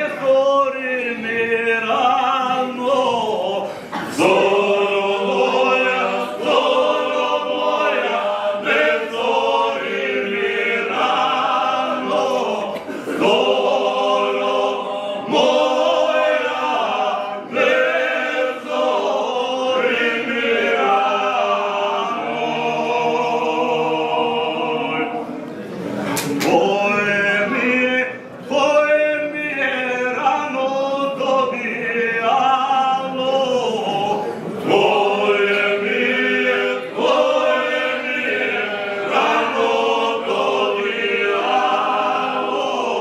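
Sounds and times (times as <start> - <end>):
male choir singing a cappella: 0.0 - 43.0.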